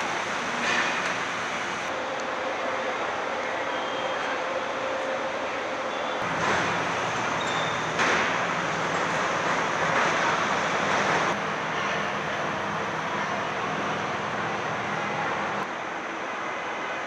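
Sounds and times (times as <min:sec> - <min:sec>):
machinery noise: 0:00.0 - 0:15.6
ventilation noise: 0:00.0 - 0:17.0.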